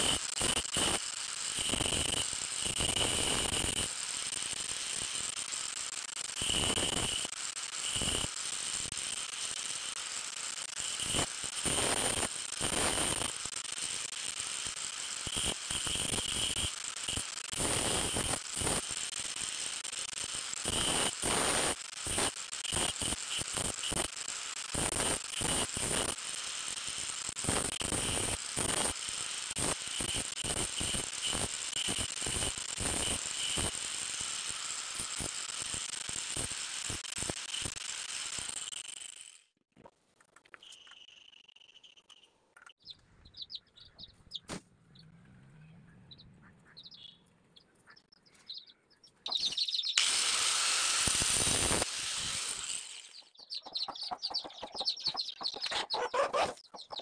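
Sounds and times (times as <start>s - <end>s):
angle grinder motor whine: 0.0s - 39.4s, 49.3s - 56.9s.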